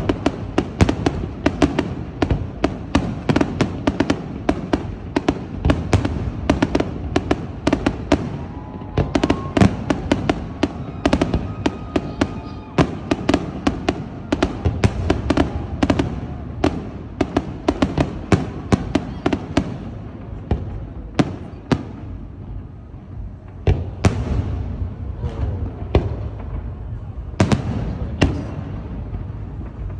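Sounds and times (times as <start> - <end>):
continuous rumble: 0.0 - 29.9
fireworks bangs and crackling: 0.0 - 29.9.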